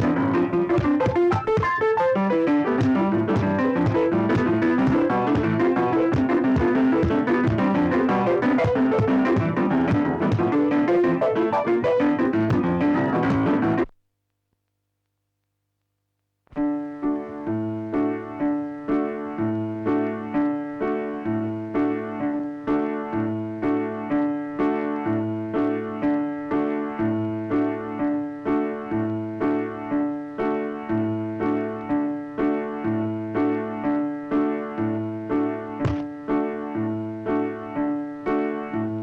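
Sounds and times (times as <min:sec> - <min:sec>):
repetitive piano-like keyboard music: 0:00.0 - 0:13.9, 0:16.6 - 0:39.0.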